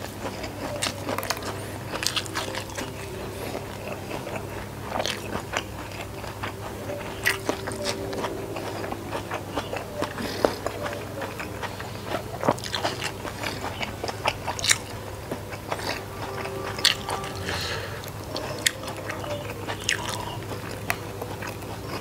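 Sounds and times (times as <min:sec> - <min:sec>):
close chewing of food: 0:00.0 - 0:22.0.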